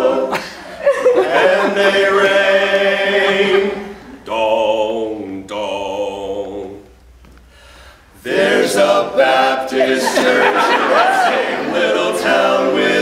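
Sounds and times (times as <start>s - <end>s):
male quartet singing a cappella: 0.0s - 6.9s, 8.2s - 13.0s.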